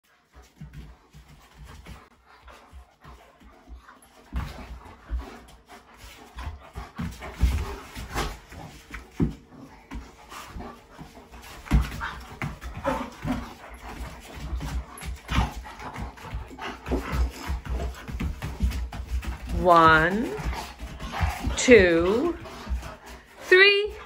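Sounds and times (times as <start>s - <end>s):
dogs breathing: 0.0s - 24.0s
paws and bodies thumping floor: 0.1s - 24.0s
dogs growling: 4.0s - 23.4s.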